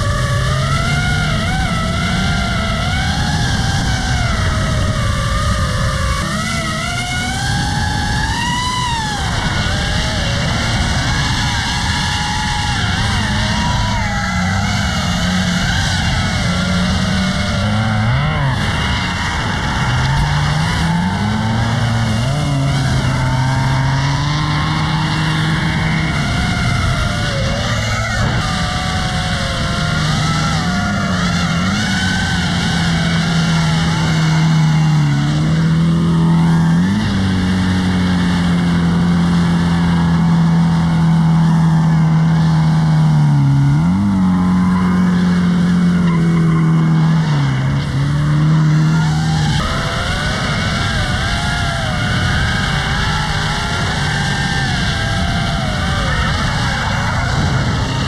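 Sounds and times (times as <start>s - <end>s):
car engines revving high: 0.0s - 58.0s
drone propellers whining: 0.0s - 58.0s
tires squealing: 0.0s - 58.0s.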